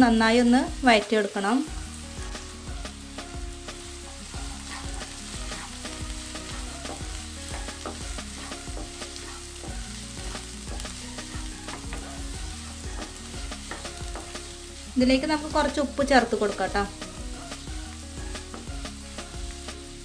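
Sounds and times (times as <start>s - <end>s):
shallots sizzling in hot oil: 0.0s - 20.0s.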